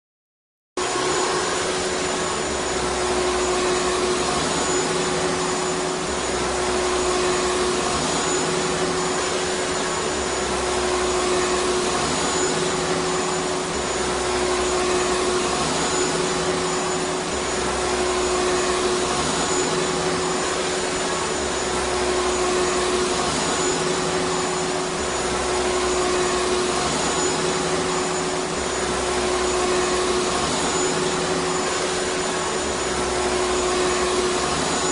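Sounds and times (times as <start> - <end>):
vacuum cleaner running: 0.8 - 34.9.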